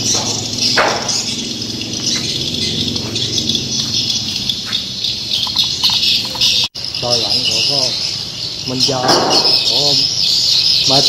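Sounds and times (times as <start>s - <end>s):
birds twittering: 0.0s - 11.0s.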